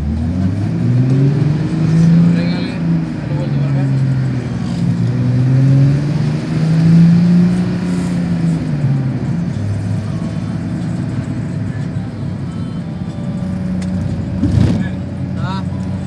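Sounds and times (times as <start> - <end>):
bus engine: 0.0 - 16.0
road noise: 0.0 - 16.0.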